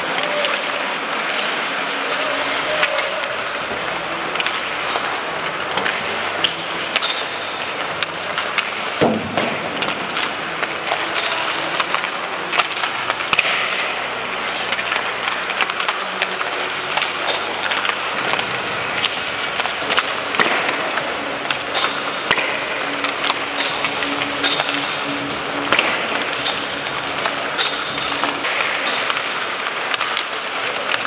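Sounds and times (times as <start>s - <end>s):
pucks and sticks clacking: 0.0s - 31.0s
skate blades scraping ice: 0.0s - 31.0s.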